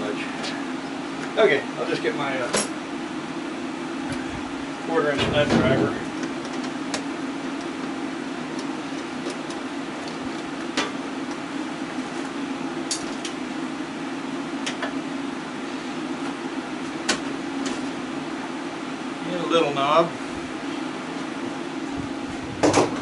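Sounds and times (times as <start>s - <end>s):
electric fan humming: 0.0s - 23.0s.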